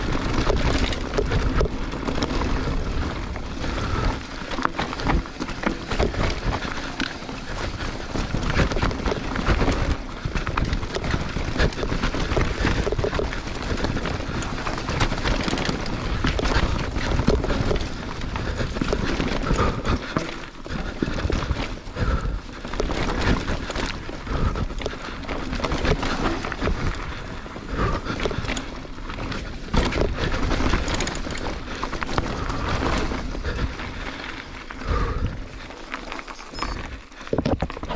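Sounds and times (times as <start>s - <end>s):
bike rattling over bumps: 0.0s - 37.9s
bike tyres rolling on dirt: 0.0s - 37.9s.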